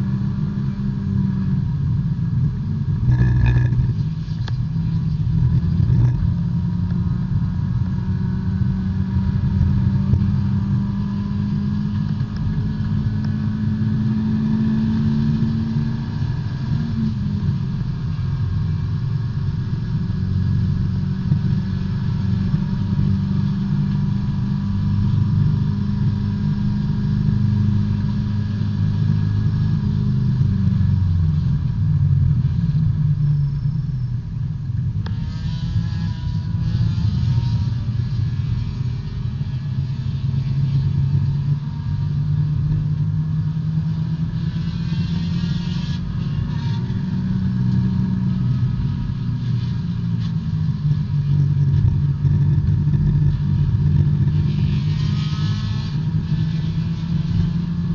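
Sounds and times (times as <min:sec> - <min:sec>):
race car engine running hard: 0:00.0 - 0:57.9.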